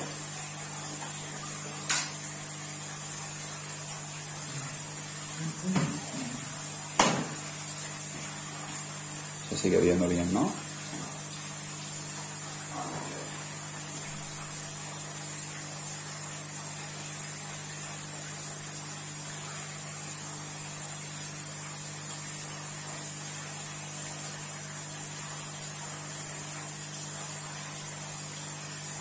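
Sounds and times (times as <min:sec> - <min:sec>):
aquarium equipment hiss: 0:00.0 - 0:29.0
electrical mains hum: 0:00.0 - 0:29.0.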